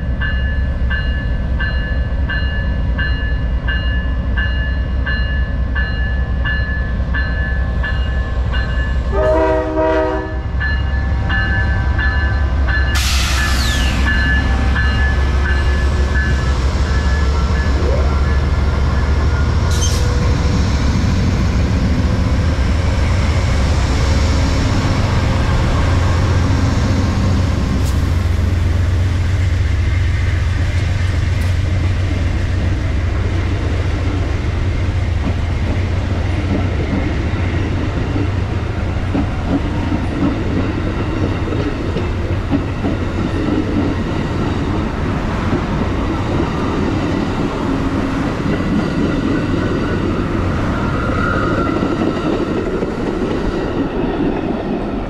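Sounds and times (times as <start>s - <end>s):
diesel locomotive engine rumble: 0.0s - 55.0s
train wheels clickety-clack on rails: 0.0s - 55.0s.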